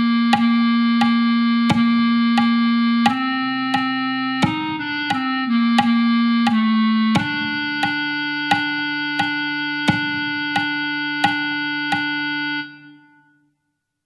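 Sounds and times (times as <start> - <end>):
metronome clicks: 0.3 - 12.3.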